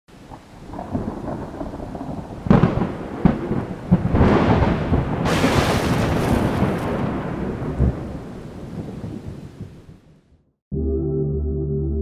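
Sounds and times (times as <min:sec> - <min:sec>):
rain: 0:00.1 - 0:10.4
thunder rumbling: 0:00.1 - 0:10.4
thunder cracks: 0:00.2 - 0:10.3.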